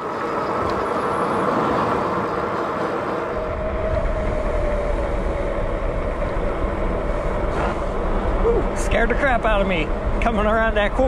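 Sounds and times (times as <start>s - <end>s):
tire noise on asphalt: 0.0s - 11.0s
wind buffeting microphone: 0.0s - 11.0s.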